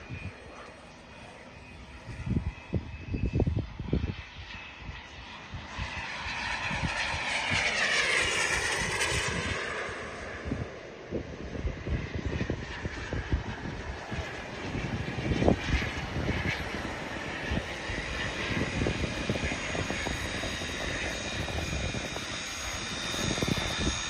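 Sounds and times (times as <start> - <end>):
model turboprop engines running: 0.0 - 24.0.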